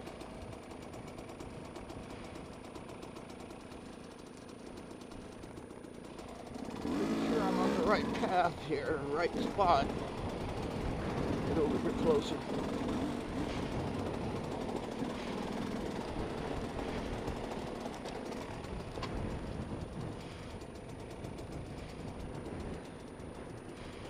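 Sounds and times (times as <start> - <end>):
dirt bike engine idling: 0.0 - 24.0.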